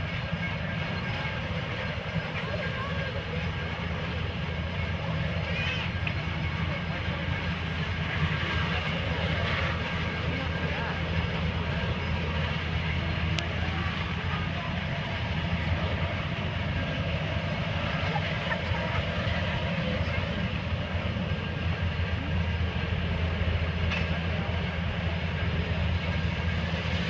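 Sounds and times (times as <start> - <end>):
steam locomotive rumbling: 0.0 - 27.0.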